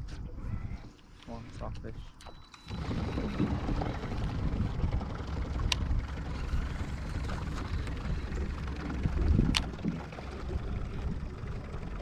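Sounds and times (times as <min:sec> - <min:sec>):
wind buffeting microphone: 0:00.0 - 0:02.1, 0:02.7 - 0:12.0.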